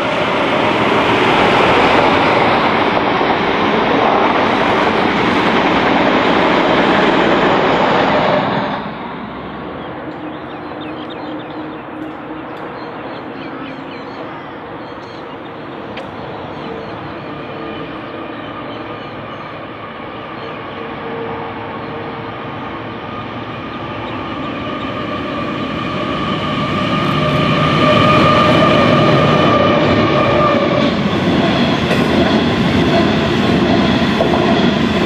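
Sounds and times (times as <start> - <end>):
diesel locomotives droning: 0.0 - 35.0
diesel passenger train passing: 0.0 - 35.0.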